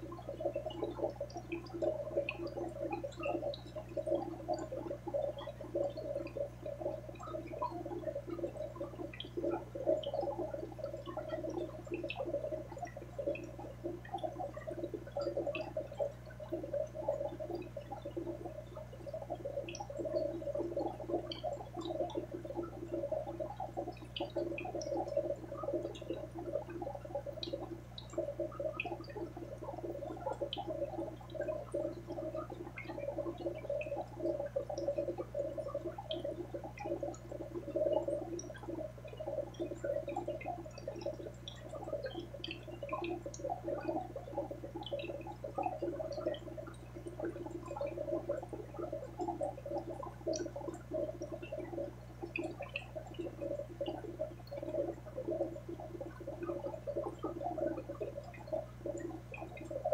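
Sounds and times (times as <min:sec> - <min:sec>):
aquarium water bubbling: 0:00.0 - 0:59.9
low steady hum: 0:00.0 - 0:59.9.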